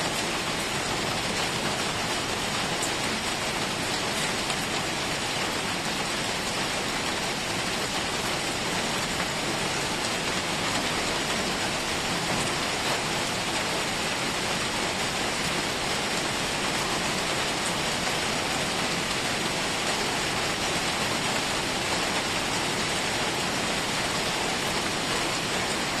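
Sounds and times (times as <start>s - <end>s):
rain on hard surfaces: 0.0s - 26.0s.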